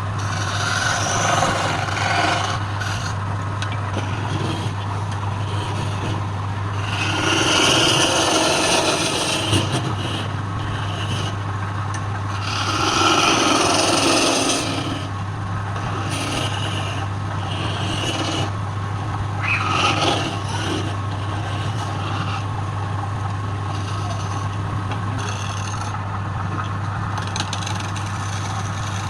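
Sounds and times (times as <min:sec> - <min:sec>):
tool scraping wood: 0:00.0 - 0:26.1, 0:27.2 - 0:29.0
lathe motor humming: 0:00.0 - 0:29.0.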